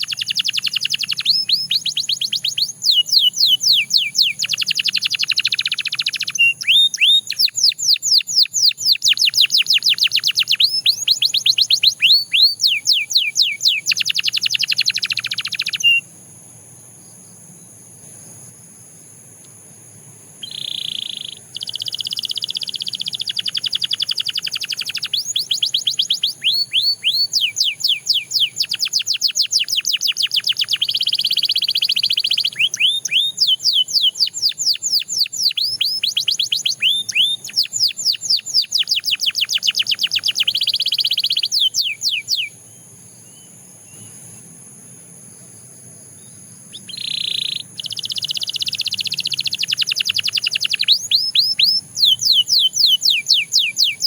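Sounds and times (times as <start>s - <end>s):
canary singing trills: 0.0s - 16.1s, 20.4s - 44.4s, 45.3s - 54.0s.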